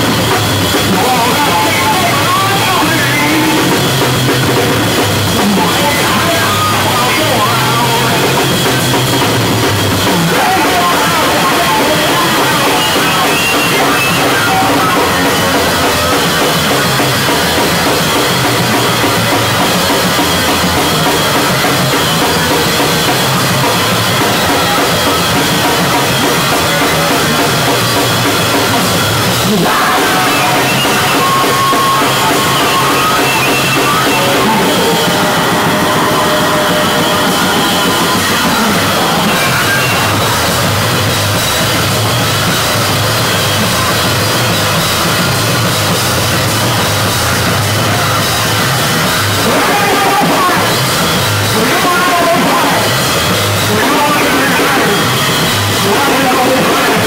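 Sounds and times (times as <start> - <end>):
distorted bass guitar: 0.0 - 57.0
fast drumming: 0.0 - 57.0.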